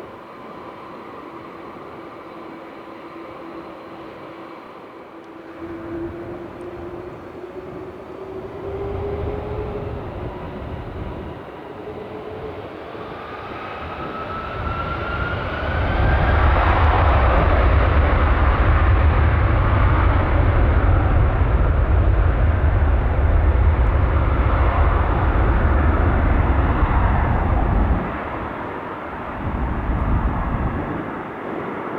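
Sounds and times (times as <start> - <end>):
jet engines roaring at take-off: 0.0 - 31.9.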